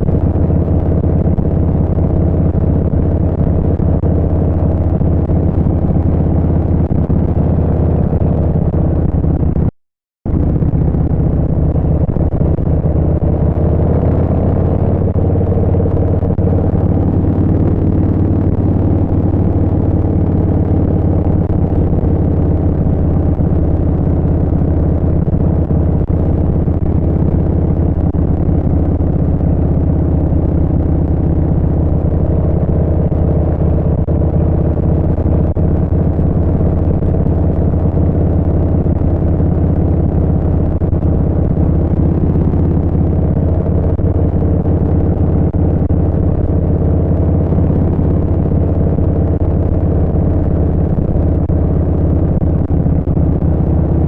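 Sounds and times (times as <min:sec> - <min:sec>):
motorcycle engine cruising: 0:00.0 - 0:09.7, 0:10.3 - 0:54.0.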